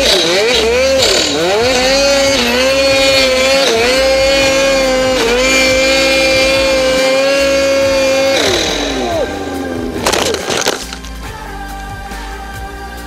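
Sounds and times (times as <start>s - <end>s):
snowmobile engine revving high: 0.0s - 11.0s.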